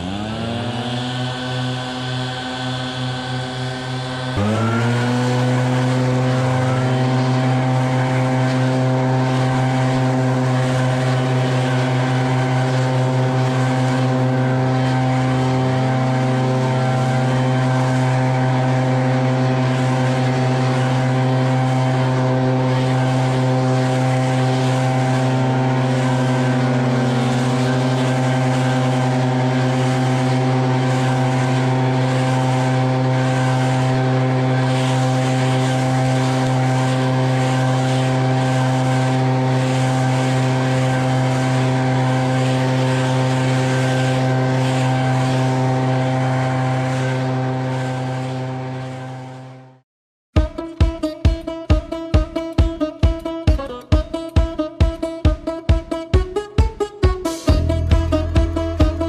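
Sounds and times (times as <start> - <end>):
leaf blower engine drone: 0.0 - 49.8, 50.4 - 59.0.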